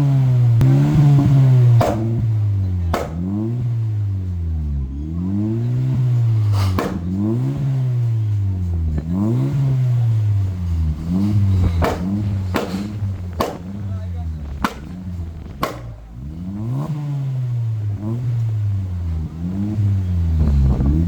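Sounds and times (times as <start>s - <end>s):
car engine revving: 0.0s - 21.0s
exhaust pops and crackles: 0.0s - 21.0s.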